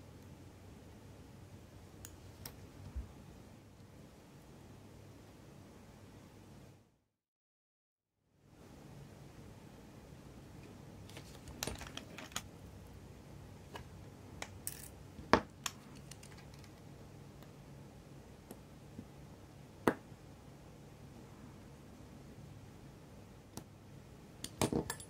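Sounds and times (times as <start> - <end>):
faint steady hum: 0.0 - 7.0, 8.2 - 25.0.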